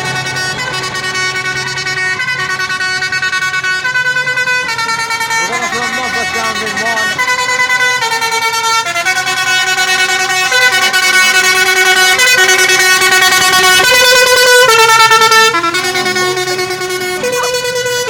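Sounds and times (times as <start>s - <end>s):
musical horn playing held notes: 0.0s - 18.0s.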